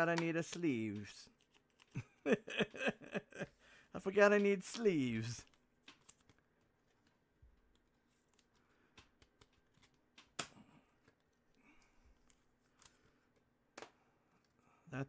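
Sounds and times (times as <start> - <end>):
trading cards rustling and clicking: 0.0 - 2.2, 4.1 - 14.6.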